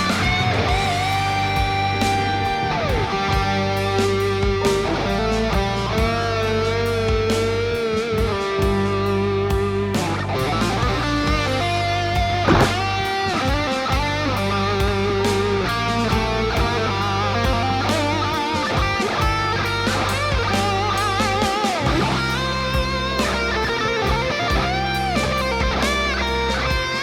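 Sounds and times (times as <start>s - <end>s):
rock music with electric guitar: 0.0s - 27.0s.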